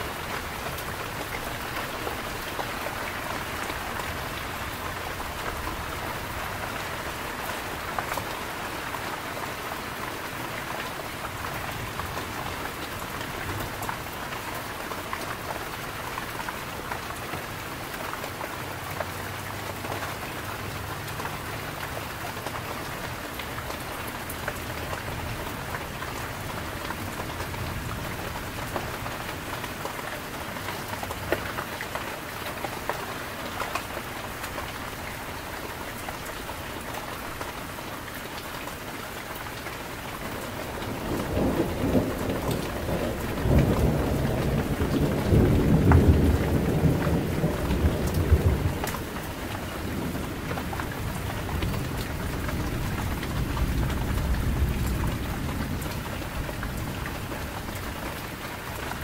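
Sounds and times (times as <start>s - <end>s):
heavy rain falling: 0.0s - 59.0s
raindrops tapping surfaces: 0.0s - 59.0s.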